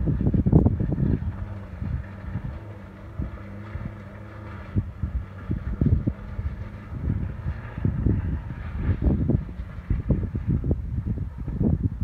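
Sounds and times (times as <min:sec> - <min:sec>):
car engine running under load: 0:00.0 - 0:12.0
wind buffeting microphone: 0:00.0 - 0:12.0.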